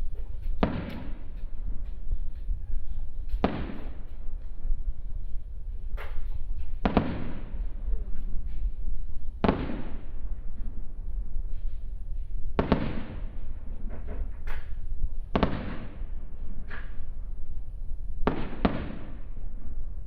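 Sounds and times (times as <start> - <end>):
fireworks booming: 0.0 - 20.0
steady low rumble: 0.0 - 20.0.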